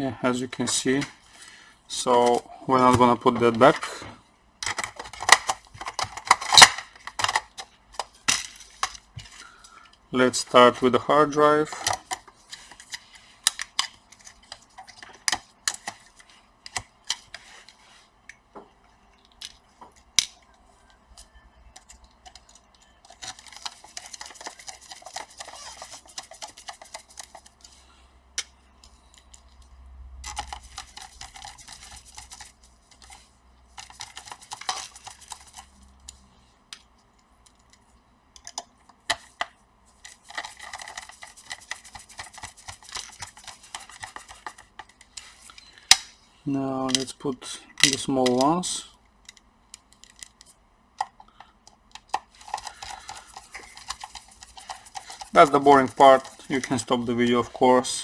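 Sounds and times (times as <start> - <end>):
small parts clicking and tapping: 4.6 - 10.0, 11.3 - 46.2, 46.9 - 58.0.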